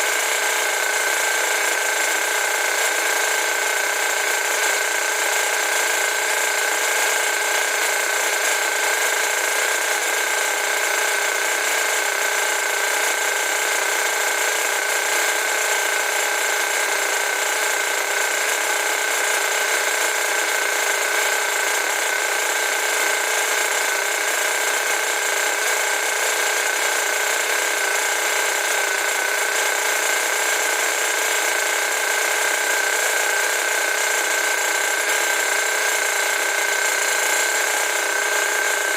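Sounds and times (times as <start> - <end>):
small motor whirring: 0.0 - 38.9.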